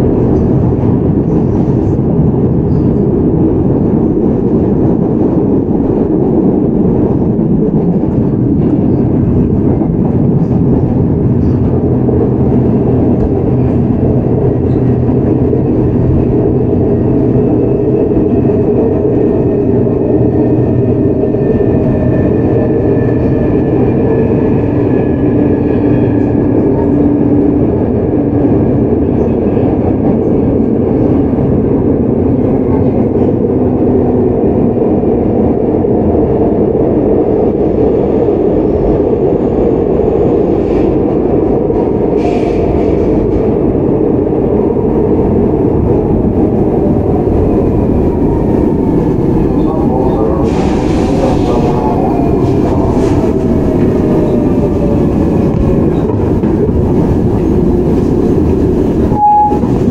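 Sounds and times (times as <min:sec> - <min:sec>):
train wheel and track noise: 0:00.0 - 0:59.9.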